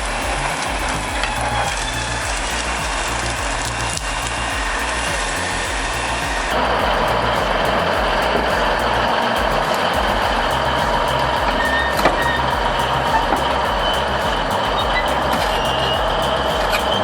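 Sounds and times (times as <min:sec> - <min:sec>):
diesel engine throbbing: 0:00.0 - 0:17.0.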